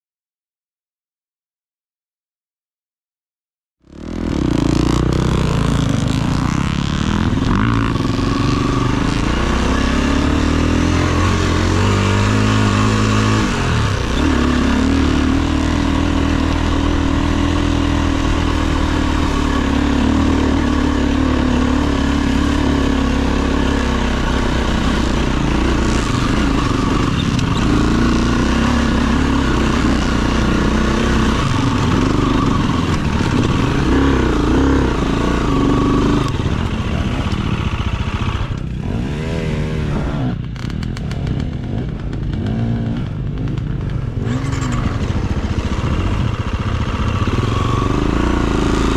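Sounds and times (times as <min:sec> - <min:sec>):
dirt bike engine revving: 0:03.8 - 0:48.9.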